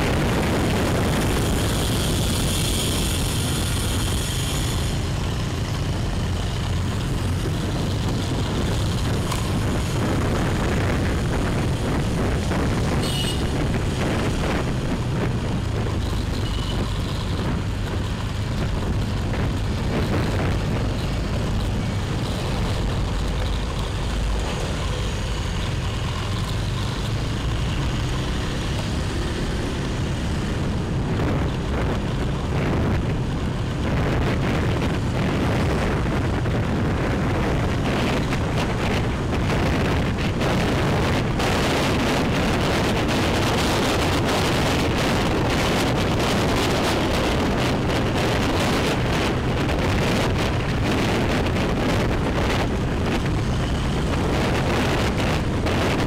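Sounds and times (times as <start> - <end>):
motorbike engine and road rumble: 0.0 - 56.0
wind buffeting microphone: 0.0 - 56.0.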